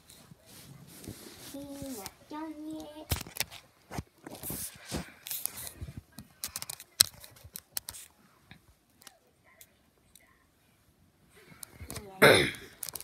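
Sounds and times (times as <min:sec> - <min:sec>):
rustling and scraping handling noises: 0:00.0 - 0:09.7, 0:11.4 - 0:13.0.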